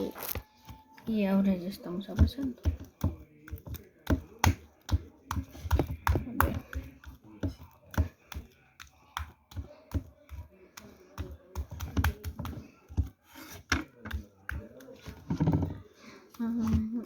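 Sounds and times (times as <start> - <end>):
hands working slime: 0.0 - 17.0.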